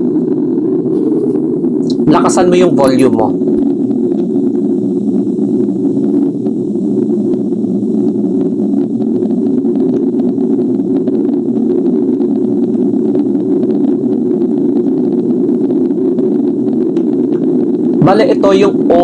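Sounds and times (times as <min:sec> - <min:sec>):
dense low hum: 0:00.0 - 0:19.0.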